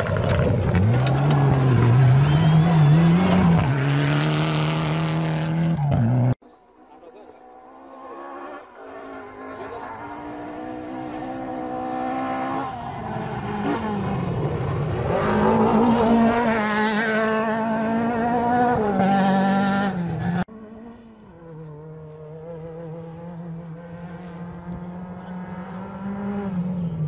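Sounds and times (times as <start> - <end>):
rally car engine revving: 0.0 - 6.4, 7.2 - 27.0.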